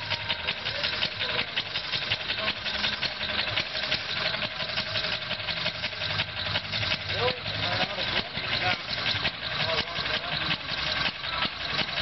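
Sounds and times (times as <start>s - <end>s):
single-cylinder engine idling: 0.0s - 12.0s.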